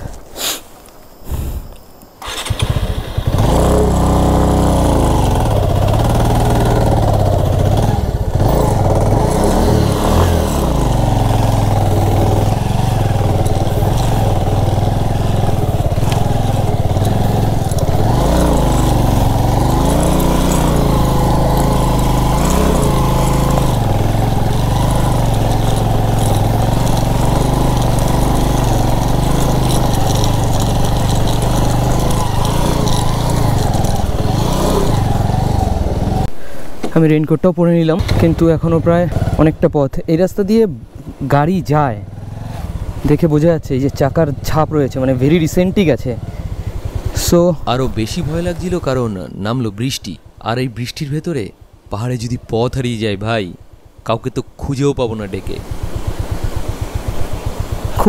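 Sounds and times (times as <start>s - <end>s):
motorcycle engine revving uphill: 2.2s - 36.3s, 37.9s - 39.6s, 41.0s - 51.0s, 55.3s - 58.0s.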